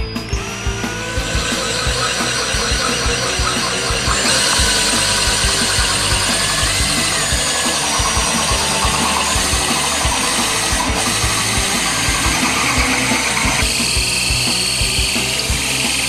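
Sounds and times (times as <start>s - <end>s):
power drill grinding into tile: 0.0s - 16.0s.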